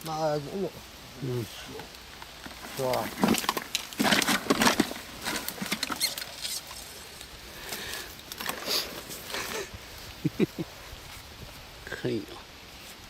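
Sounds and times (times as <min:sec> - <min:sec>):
rustling crackling patter: 0:00.0 - 0:13.0.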